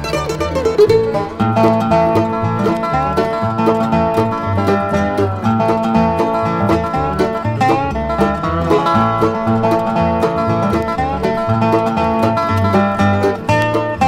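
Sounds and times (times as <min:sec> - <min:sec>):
acoustic guitar: 0:00.0 - 0:14.0
banjo picking: 0:00.0 - 0:14.0
bass line: 0:00.0 - 0:14.0.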